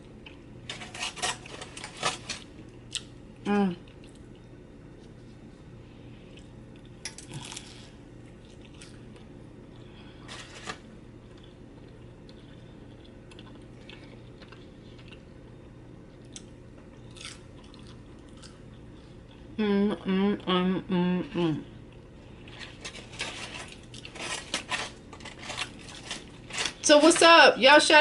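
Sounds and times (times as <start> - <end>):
chewing crunchy food: 0.0 - 3.2, 3.8 - 5.4, 6.2 - 19.5, 21.8 - 26.8
faint steady hum: 0.0 - 28.0.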